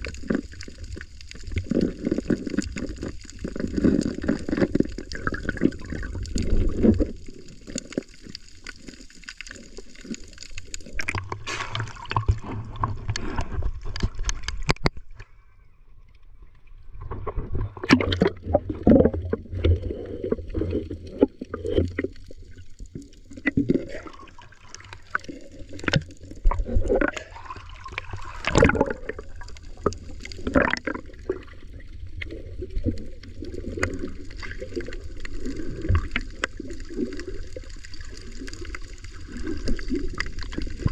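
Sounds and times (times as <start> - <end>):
muffled underwater water gurgling: 0.0 - 40.9.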